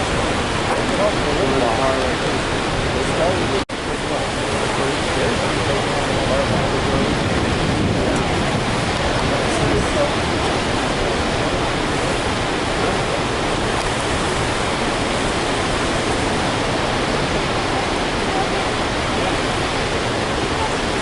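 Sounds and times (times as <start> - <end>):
floodwater rushing from a dam: 0.0 - 21.0.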